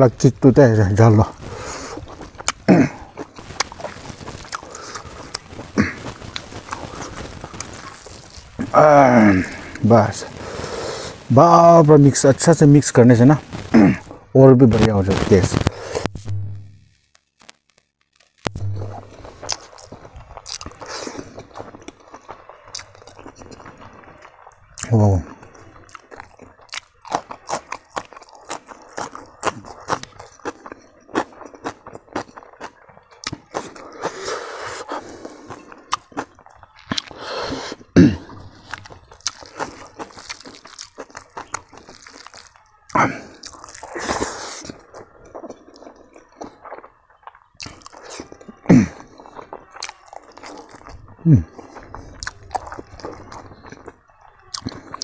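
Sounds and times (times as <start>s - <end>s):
man chewing crunchy food: 0.0s - 11.8s, 17.4s - 55.0s.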